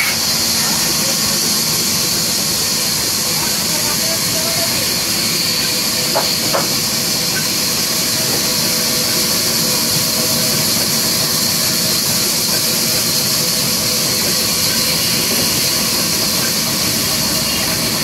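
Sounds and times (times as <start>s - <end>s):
band saw running: 0.0s - 18.0s.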